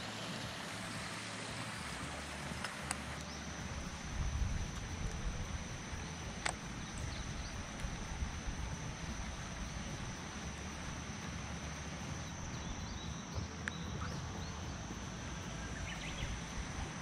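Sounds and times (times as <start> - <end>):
high-pitched whine: 0.0 - 17.0
wind rumbling on microphone: 0.0 - 17.0.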